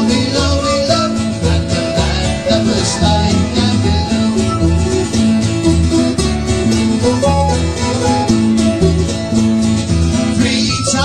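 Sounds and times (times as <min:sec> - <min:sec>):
folk band playing a sea shanty: 0:00.0 - 0:11.0.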